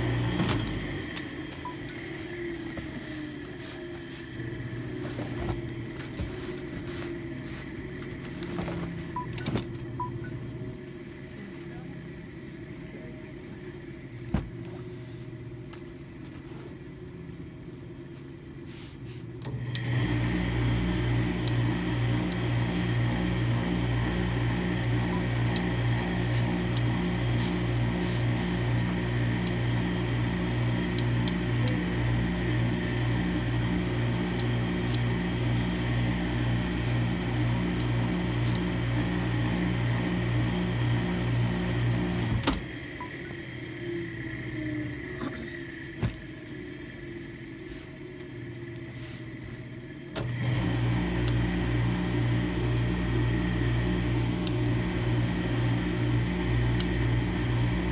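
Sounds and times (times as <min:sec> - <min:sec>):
pulsing motor hum: 0:00.0 - 0:18.6, 0:19.4 - 0:57.9.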